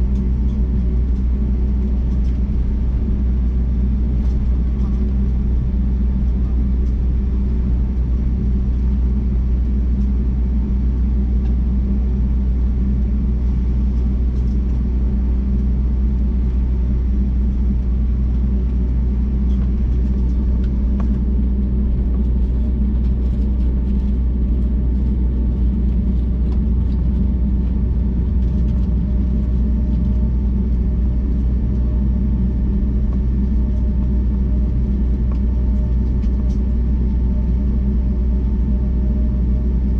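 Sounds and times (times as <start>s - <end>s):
airliner cabin engine rumble: 0.0s - 39.9s
steady hum tones: 0.0s - 39.9s.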